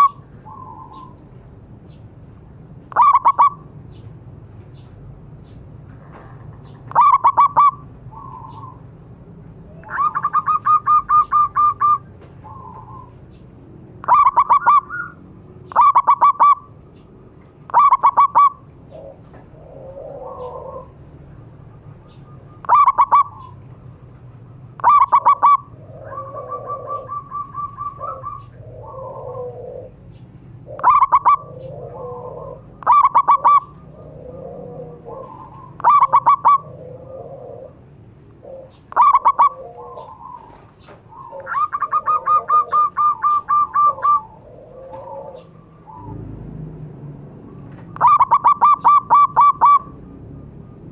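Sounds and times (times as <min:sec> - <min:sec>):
dove cooing and trilling: 0:00.0 - 0:01.3, 0:02.9 - 0:04.0, 0:06.6 - 0:08.9, 0:09.6 - 0:13.4, 0:14.0 - 0:17.0, 0:17.7 - 0:46.4, 0:47.8 - 0:50.9
softer lower bird calls: 0:00.0 - 0:01.3, 0:02.9 - 0:04.1, 0:06.6 - 0:08.9, 0:09.7 - 0:17.1, 0:17.7 - 0:37.8, 0:38.4 - 0:46.2, 0:47.8 - 0:50.9.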